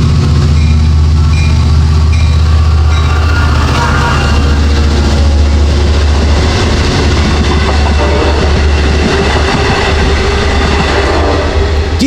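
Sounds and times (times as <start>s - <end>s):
diesel locomotive drone: 0.0s - 12.0s
wheels rumbling on rails: 0.0s - 12.0s.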